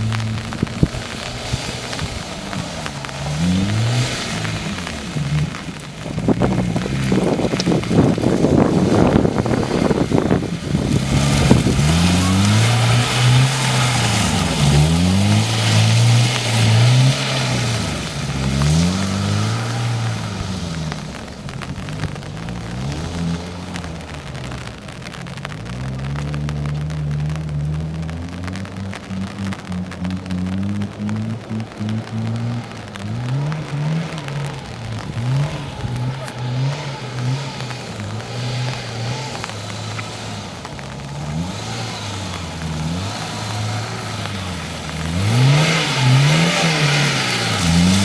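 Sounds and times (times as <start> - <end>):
car engine revving: 0.0 - 48.0
loud rushing crackling noise: 0.0 - 48.0.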